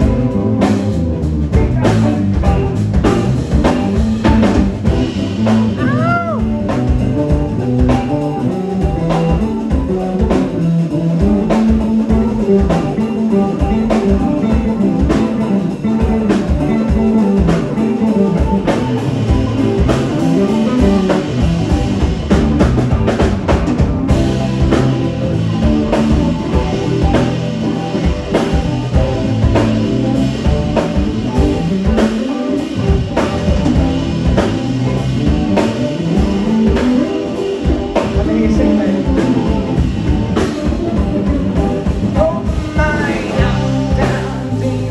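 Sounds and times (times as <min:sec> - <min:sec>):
drum hits: 0:00.0 - 0:10.6, 0:11.2 - 0:44.4
electric bass line: 0:00.0 - 0:44.9
electric guitar: 0:00.0 - 0:44.9.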